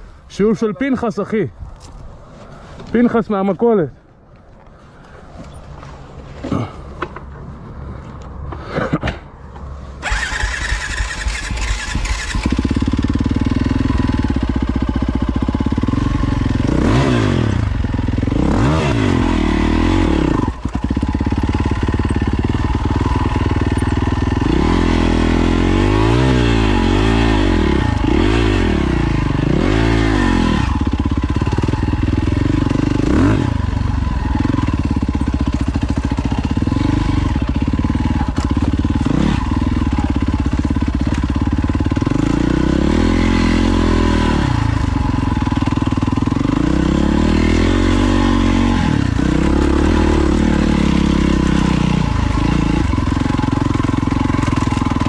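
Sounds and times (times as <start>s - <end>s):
dirt bike engine revving: 10.0s - 55.0s.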